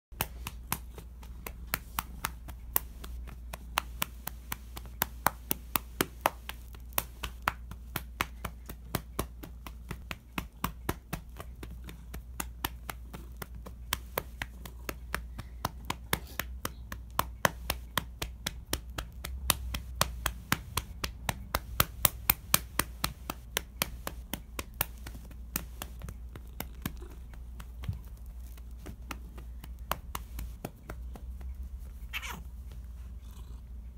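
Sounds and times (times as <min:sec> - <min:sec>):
hand patting cat's fur: 0:00.2 - 0:33.1.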